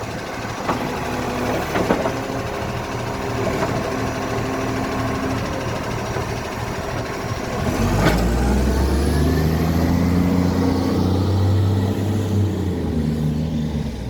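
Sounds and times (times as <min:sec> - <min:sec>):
diesel engine pulling away: 0:00.0 - 0:14.0.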